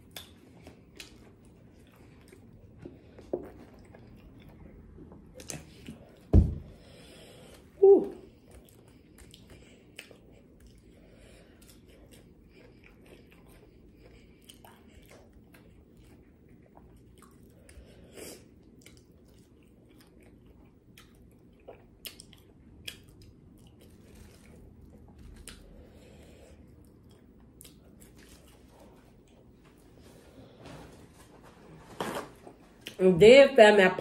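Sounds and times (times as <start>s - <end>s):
wet chewing sounds: 0.0s - 6.3s, 8.3s - 29.9s.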